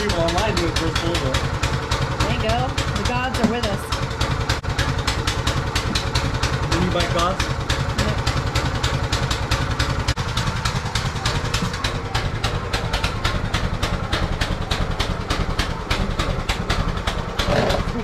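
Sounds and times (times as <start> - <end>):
mini bike engine idling: 0.0 - 18.0.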